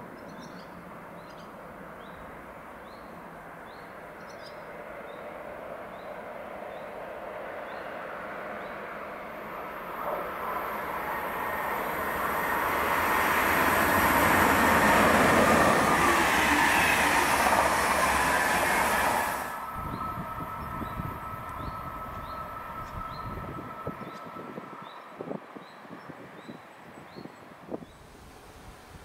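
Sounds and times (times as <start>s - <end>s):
train passing through station: 0.0s - 29.0s.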